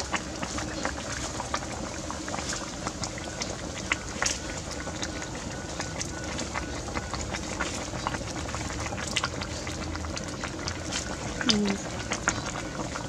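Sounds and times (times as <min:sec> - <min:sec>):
soup boiling and bubbling: 0:00.0 - 0:13.0.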